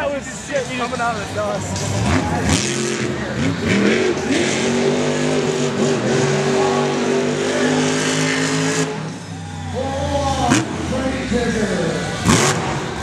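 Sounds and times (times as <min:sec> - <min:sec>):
truck engine at high revs: 0:00.0 - 0:13.0.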